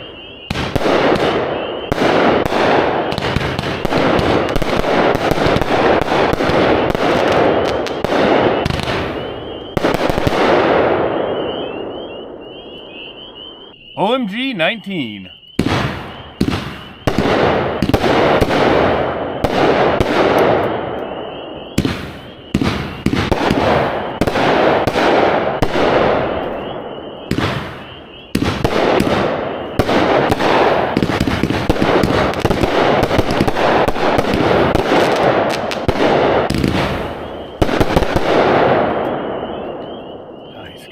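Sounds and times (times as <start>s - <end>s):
firework launch reports: 0.0s - 13.2s, 13.9s - 40.9s
firework bursts: 0.0s - 40.9s.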